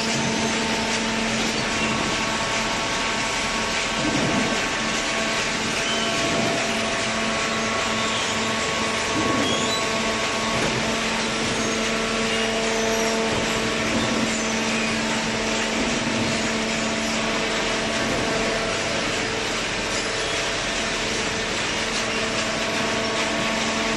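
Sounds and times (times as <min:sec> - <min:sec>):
baler machine drone: 0:00.0 - 0:23.9.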